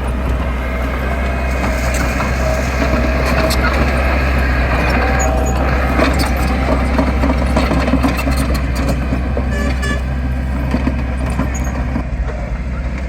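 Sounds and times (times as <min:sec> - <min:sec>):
diesel machine engine running: 0:00.0 - 0:13.0.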